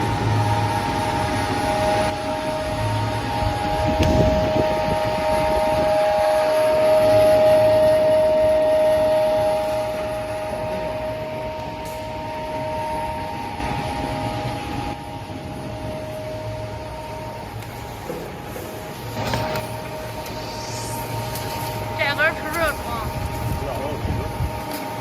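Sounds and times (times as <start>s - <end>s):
machine drone with high whine: 0.0s - 25.0s.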